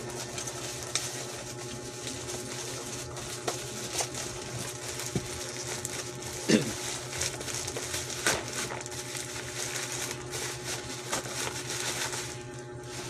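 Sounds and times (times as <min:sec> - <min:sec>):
background hiss and hum: 0:00.0 - 0:13.0
plastic package crinkling: 0:00.0 - 0:13.0.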